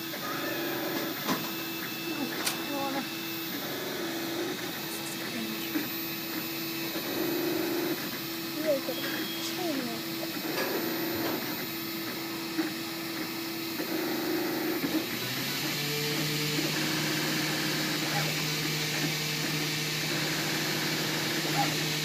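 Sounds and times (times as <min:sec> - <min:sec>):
printer stepper motors whirring: 0:00.0 - 0:22.0.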